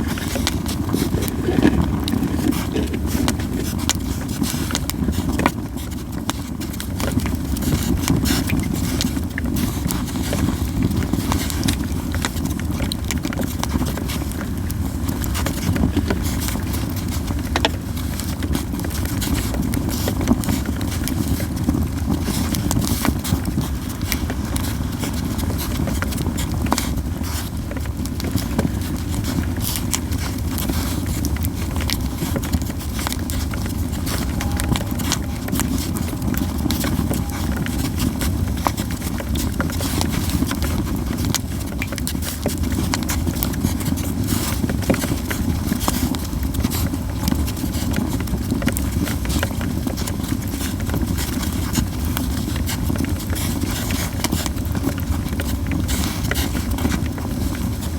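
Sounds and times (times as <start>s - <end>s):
fire crackling and popping: 0.0s - 57.9s
low fire rumble: 0.0s - 57.9s.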